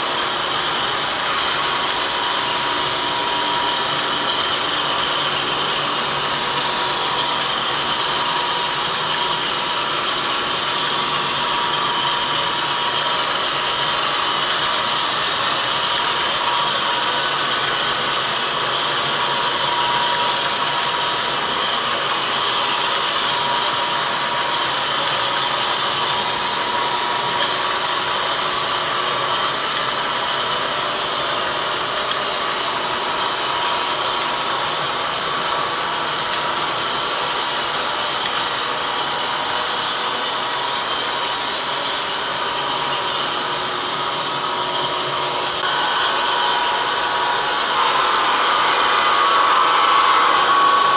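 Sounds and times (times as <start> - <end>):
model train wheels on rail: 0.0 - 50.9.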